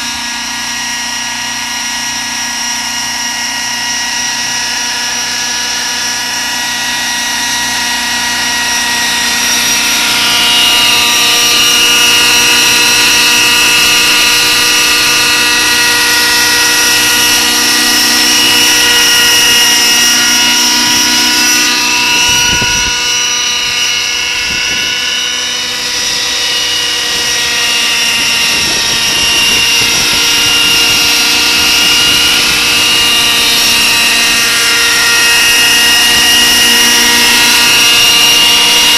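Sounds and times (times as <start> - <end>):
model helicopter hovering: 0.0 - 38.9.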